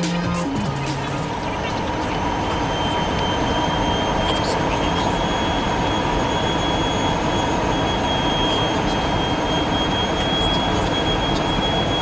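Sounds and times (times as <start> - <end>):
airliner cabin roar: 0.0 - 12.0
thin high whine: 0.0 - 12.0.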